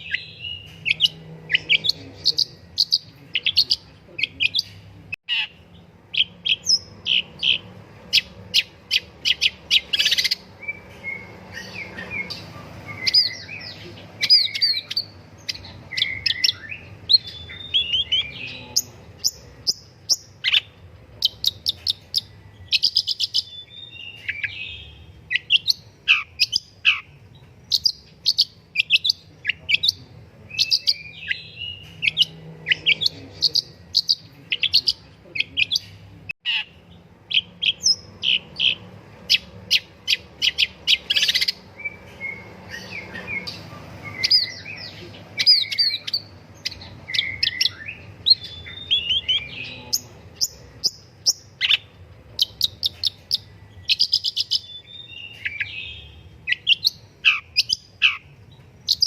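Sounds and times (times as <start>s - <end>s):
bird singing chirps and trills: 0.0s - 59.0s.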